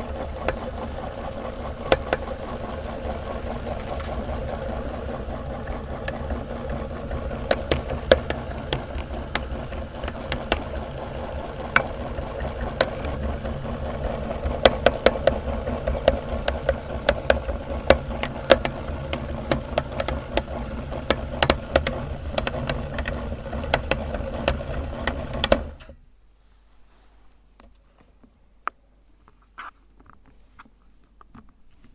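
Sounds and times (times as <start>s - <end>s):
electric meat grinder running: 0.0s - 25.8s.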